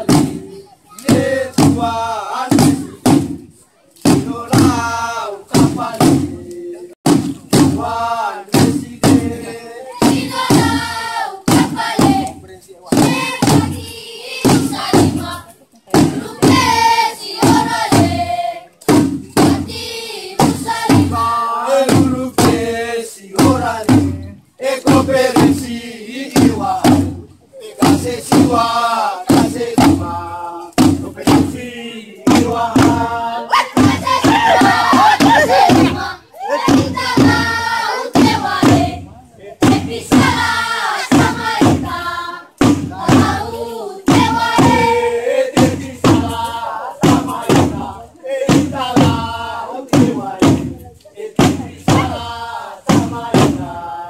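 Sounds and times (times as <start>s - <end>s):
men singing a chant: 0.0s - 3.0s, 4.1s - 54.0s
hand drums beating: 0.0s - 22.8s, 26.3s - 53.8s.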